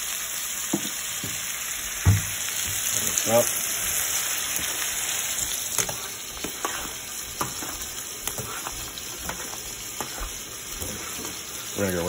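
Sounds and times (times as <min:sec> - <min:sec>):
shrimp sizzling in a hot pan: 0:00.0 - 0:12.0.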